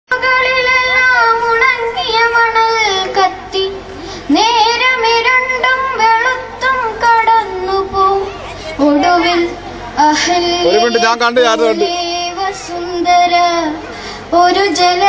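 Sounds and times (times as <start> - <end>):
girl singing: 0.1 - 11.0, 11.7 - 15.0.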